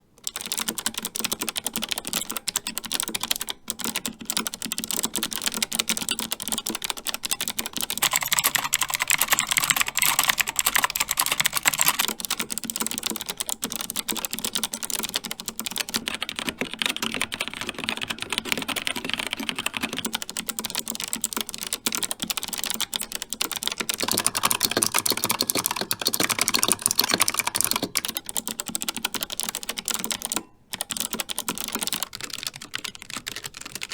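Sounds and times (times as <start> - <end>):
mechanical keyboard typing: 0.2 - 33.9.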